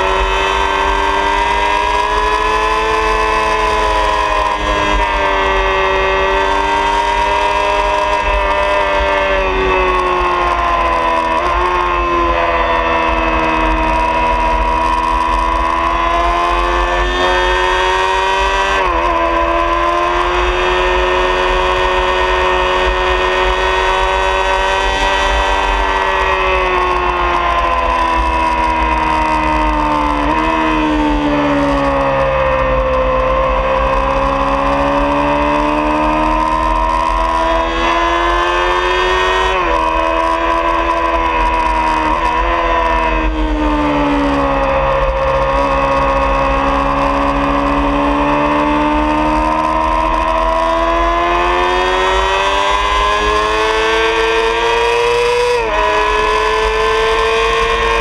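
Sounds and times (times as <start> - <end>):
motorcycle engine pulling hard: 0.0 - 58.0.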